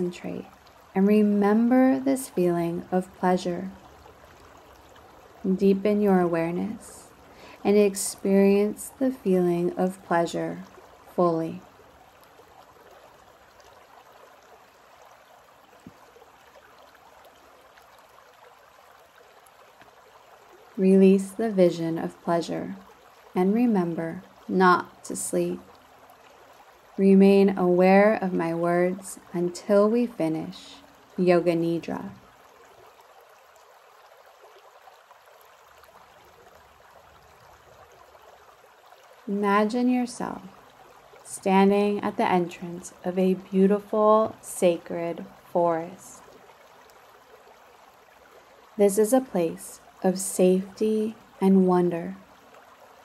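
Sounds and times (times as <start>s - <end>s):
creek water over rocks: 0.0s - 53.0s.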